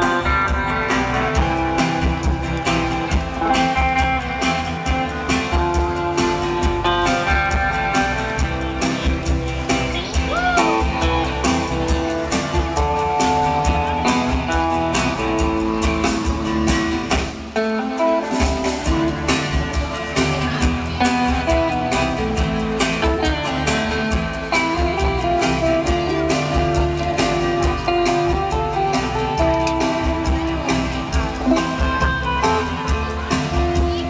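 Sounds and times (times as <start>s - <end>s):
drums: 0.0s - 34.0s
electric bass: 0.0s - 34.0s
electric guitar melody: 0.0s - 34.0s
strummed acoustic guitar: 0.0s - 34.0s.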